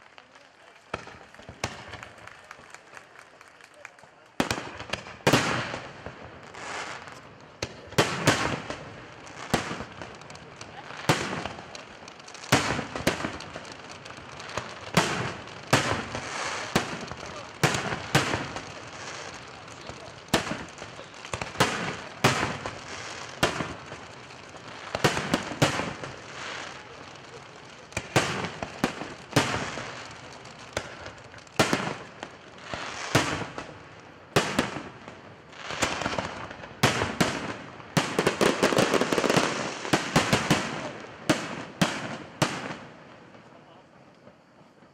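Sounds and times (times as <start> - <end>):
fireworks bursting: 0.0 - 44.9.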